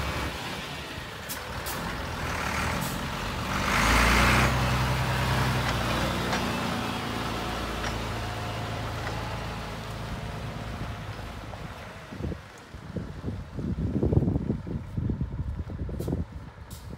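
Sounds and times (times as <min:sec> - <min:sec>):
diesel truck engine droning: 0:00.0 - 0:16.9.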